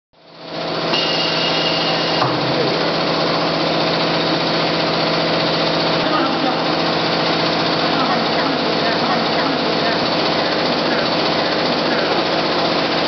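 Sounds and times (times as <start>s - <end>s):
cnc router running: 0.3s - 13.0s
high steady whine: 0.3s - 13.0s.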